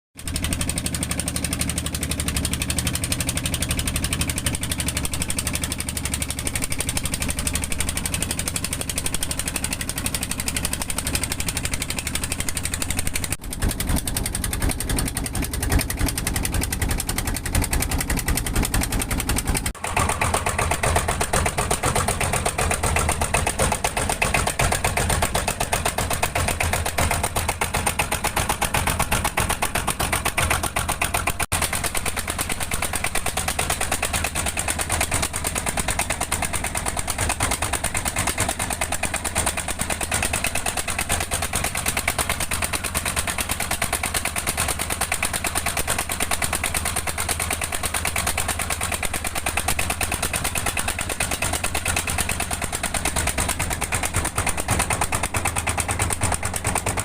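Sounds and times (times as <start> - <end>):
engine running: 0.2 - 57.0.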